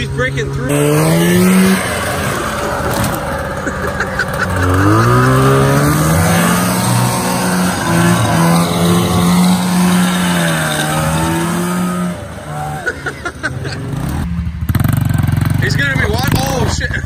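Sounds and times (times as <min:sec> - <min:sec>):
snowmobile engine revving: 0:00.0 - 0:17.0.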